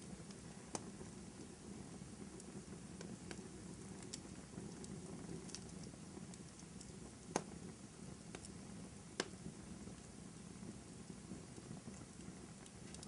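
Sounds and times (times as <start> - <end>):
fire burning rumble: 0.0 - 13.0
fireplace fire crackling: 0.0 - 13.0.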